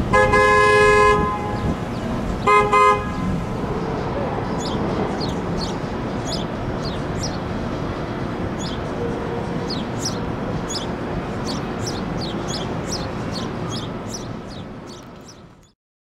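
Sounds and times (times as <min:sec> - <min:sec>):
city street rumble: 0:00.0 - 0:15.8
bird chirping: 0:01.6 - 0:15.8.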